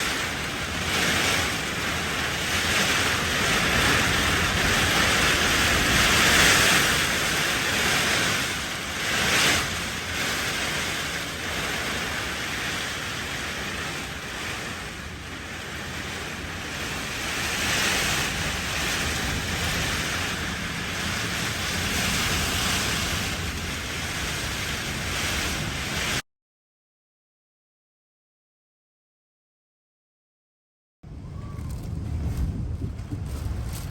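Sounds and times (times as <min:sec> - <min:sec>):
strong wind gusting: 0:00.0 - 0:26.2, 0:31.0 - 0:33.9.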